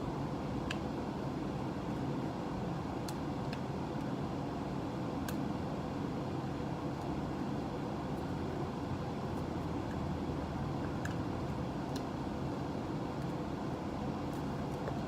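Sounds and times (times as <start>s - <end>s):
fan whir: 0.0s - 15.0s.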